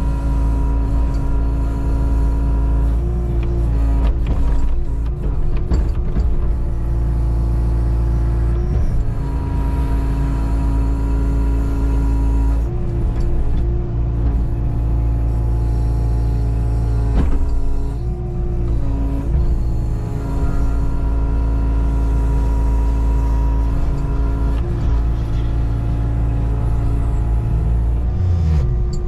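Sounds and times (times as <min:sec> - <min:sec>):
diesel engine running under load: 0:00.0 - 0:29.0
hydraulic whine: 0:00.0 - 0:29.0.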